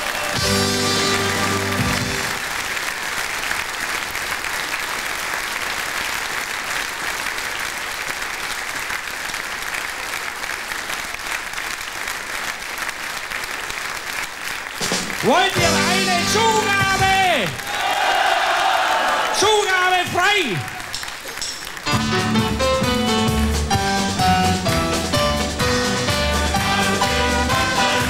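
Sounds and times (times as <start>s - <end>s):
audience applauding: 0.0s - 28.0s.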